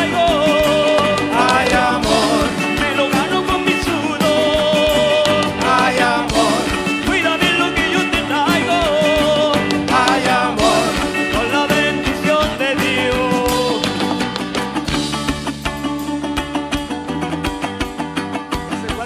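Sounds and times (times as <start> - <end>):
folk band playing live: 0.0 - 19.0.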